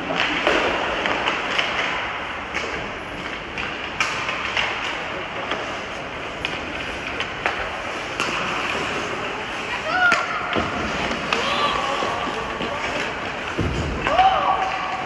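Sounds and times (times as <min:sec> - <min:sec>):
skate blades scraping ice: 0:00.0 - 0:15.0
sticks and puck clacking: 0:00.0 - 0:15.0.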